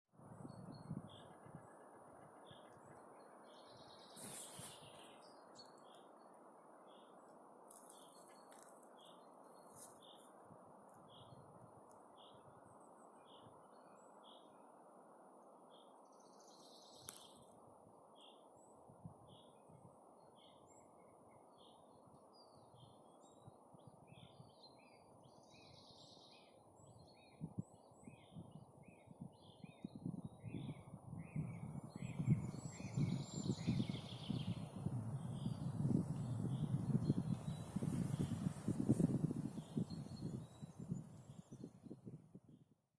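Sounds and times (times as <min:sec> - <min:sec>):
songbird high chirp: 0:00.3 - 0:14.8, 0:15.4 - 0:42.5.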